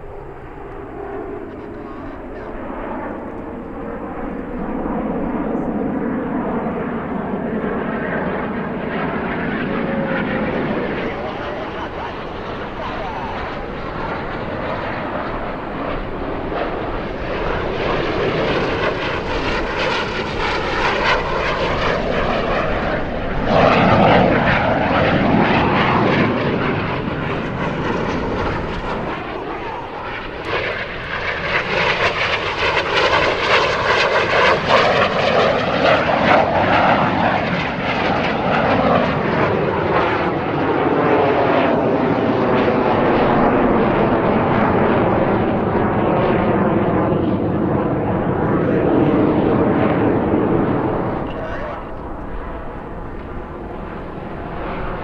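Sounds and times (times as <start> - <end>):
jet planes flying past: 0.0 - 55.0.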